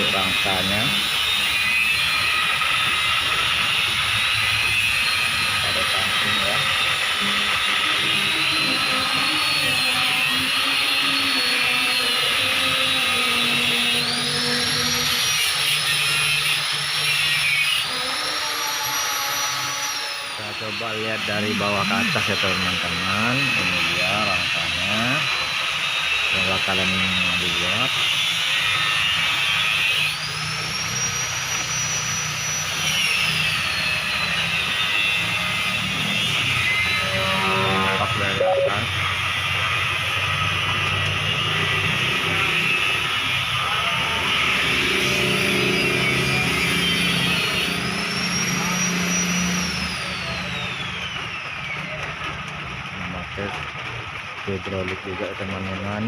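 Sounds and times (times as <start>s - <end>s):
power tool cutting metal: 0.0s - 56.0s.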